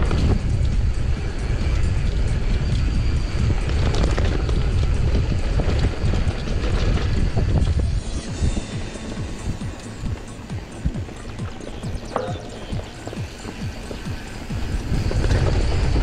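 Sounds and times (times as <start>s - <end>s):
bike rattling over bumps: 0.0s - 16.0s
wind rumble on microphone: 0.0s - 16.0s
tyres crunching on dirt: 1.4s - 16.0s.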